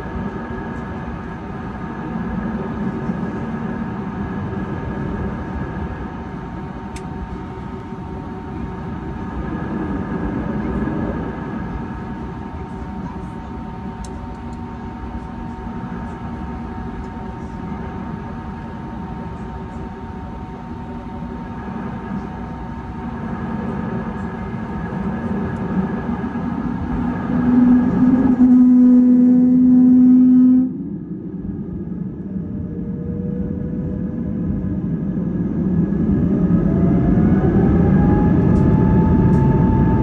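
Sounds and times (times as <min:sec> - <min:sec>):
jet engines humming: 0:00.0 - 0:40.0
strong low drone: 0:00.0 - 0:40.0.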